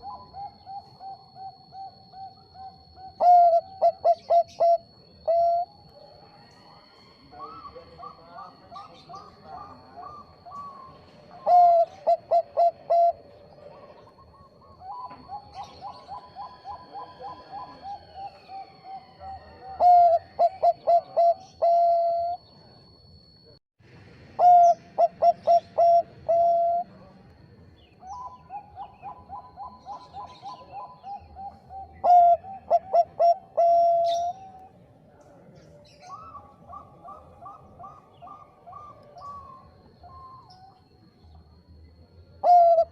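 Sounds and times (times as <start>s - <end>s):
doves cooing: 0.0s - 23.4s, 24.3s - 34.8s, 35.8s - 41.6s, 42.3s - 42.9s
thin steady high tone: 0.0s - 42.9s.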